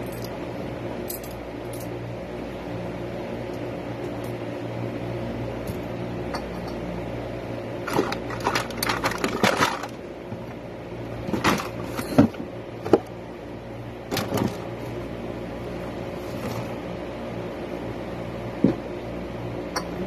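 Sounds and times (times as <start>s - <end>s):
electric fan motor hum: 0.0s - 20.0s.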